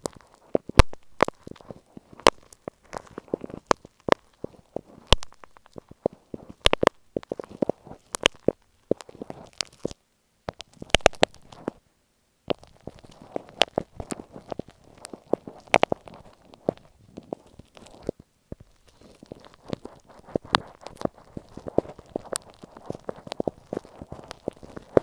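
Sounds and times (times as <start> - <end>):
glue stick crackling and clicking: 0.0 - 11.8, 12.5 - 25.0.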